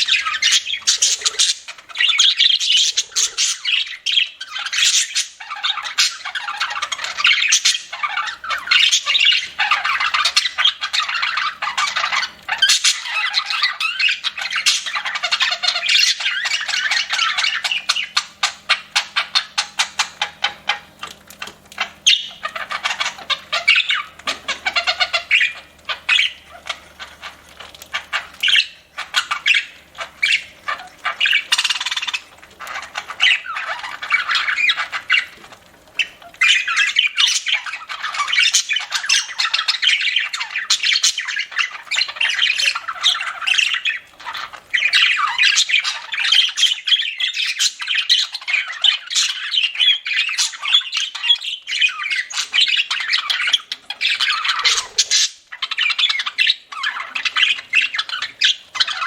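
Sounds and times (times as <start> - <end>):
budgerigars chattering and squawking: 0.0 - 59.0.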